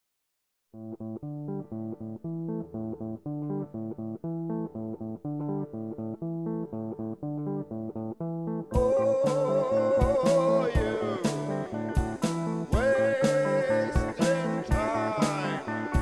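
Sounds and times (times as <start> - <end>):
plucked guitar over bass: 0.8 - 16.0.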